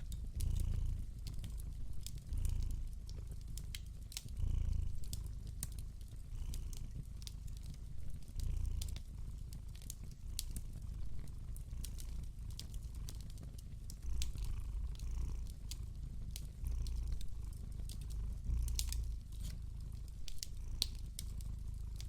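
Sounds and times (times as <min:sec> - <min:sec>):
cat purring: 0:00.0 - 0:22.0
fire crackling and popping: 0:00.0 - 0:22.0.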